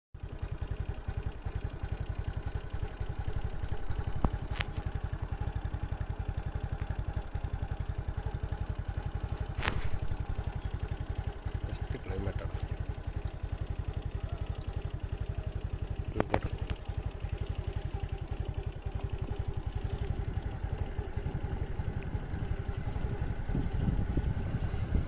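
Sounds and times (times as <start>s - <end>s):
engine idling: 0.2s - 25.0s.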